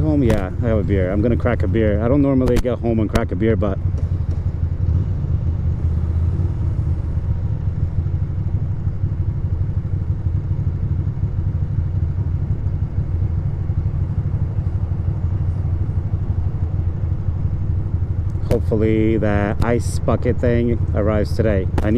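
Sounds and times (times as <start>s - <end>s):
motorcycle engine idling: 0.0s - 21.9s.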